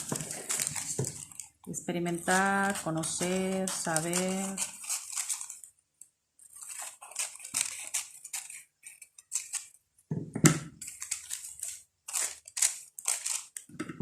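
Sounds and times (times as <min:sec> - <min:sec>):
paper rustling and crackling: 0:00.0 - 0:05.8, 0:06.4 - 0:09.8, 0:10.8 - 0:13.7.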